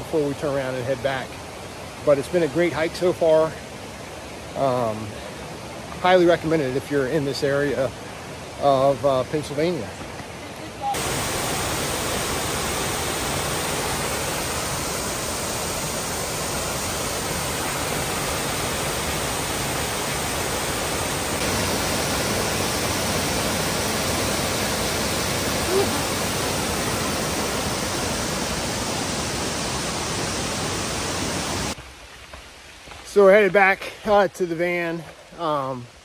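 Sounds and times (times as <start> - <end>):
waterfall rushing: 0.0 - 31.8.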